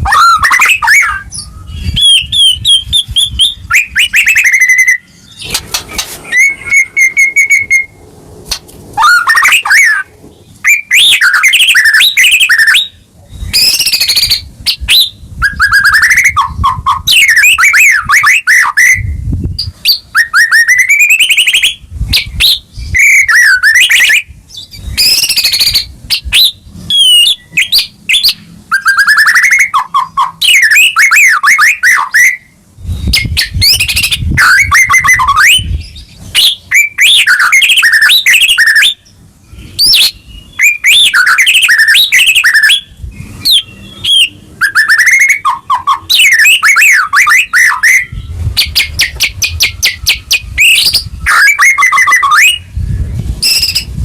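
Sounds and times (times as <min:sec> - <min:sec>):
bird singing whistles and trills: 0:00.0 - 0:08.0, 0:09.0 - 0:54.0.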